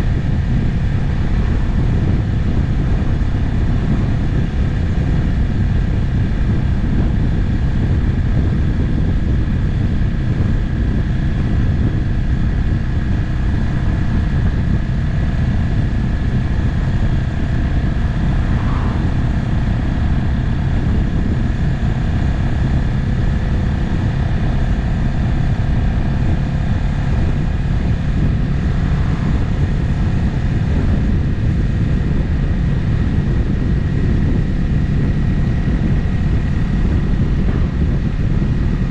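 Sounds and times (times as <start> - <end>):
motorcycle engine drone: 0.0 - 38.9
riding wind rush: 0.0 - 38.9.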